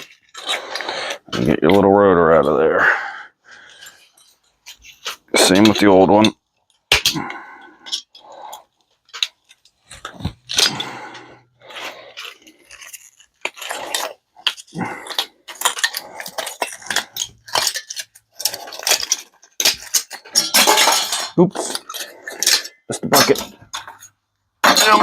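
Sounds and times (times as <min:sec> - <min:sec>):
metal tools clanking and scraping: 0:03.6 - 0:25.0.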